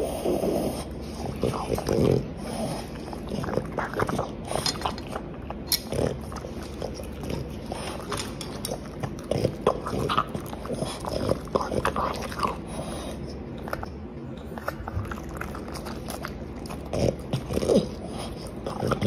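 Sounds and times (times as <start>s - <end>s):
dog chewing and licking: 0.8s - 19.0s.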